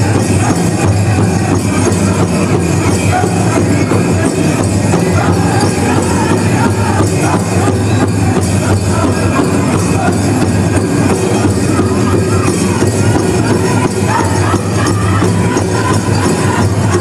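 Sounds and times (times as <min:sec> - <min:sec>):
group singing: 0:00.0 - 0:17.0
loud drumbeat on large drum: 0:00.0 - 0:17.0.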